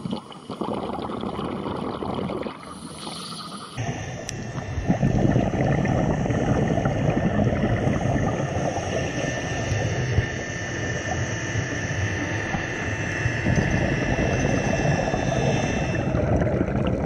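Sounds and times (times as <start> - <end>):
underwater rumble and crackle: 0.0 - 17.0.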